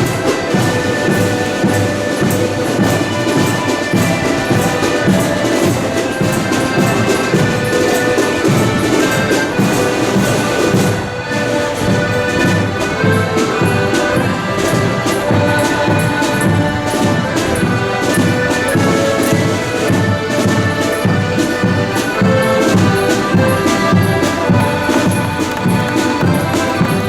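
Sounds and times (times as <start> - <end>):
accordions holding chords: 0.0 - 27.0
drums beating: 0.0 - 27.0.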